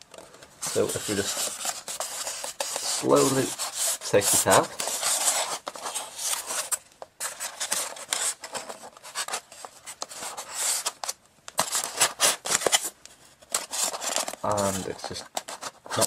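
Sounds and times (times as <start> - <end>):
plastic packaging scraping foam: 0.6 - 16.0.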